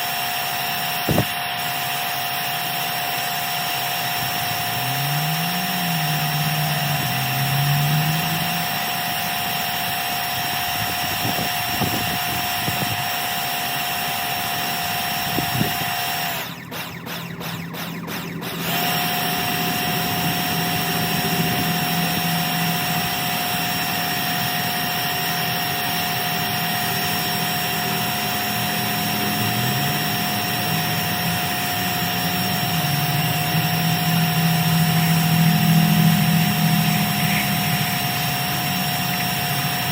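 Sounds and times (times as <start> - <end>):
motor with high whine: 0.0 - 39.9.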